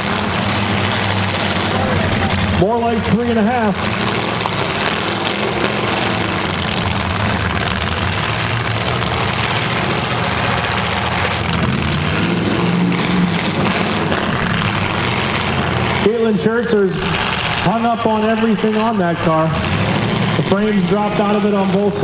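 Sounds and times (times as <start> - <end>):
car engine revving: 0.0 - 22.0
car engines running loud: 0.0 - 22.0.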